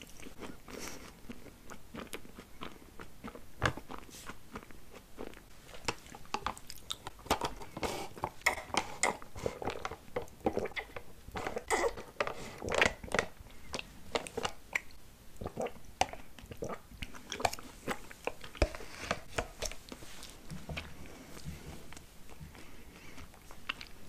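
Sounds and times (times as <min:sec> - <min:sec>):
chewing with wet clicks and smacks: 0:00.0 - 0:11.1, 0:12.6 - 0:24.0.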